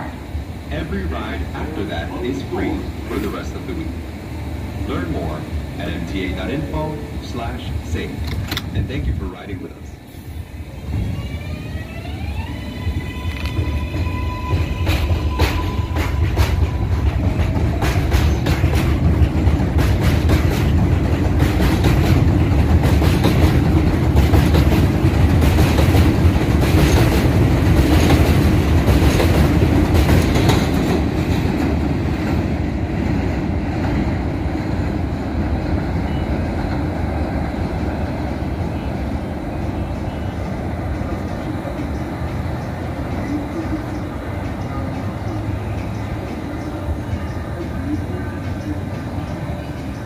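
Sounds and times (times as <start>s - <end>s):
subway train rumbling past: 0.0s - 50.0s.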